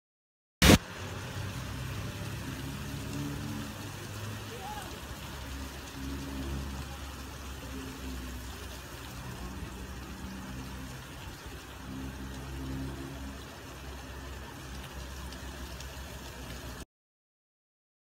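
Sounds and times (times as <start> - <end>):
cars driving on wet road: 0.6 - 16.8
heavy rain on street: 0.6 - 16.9.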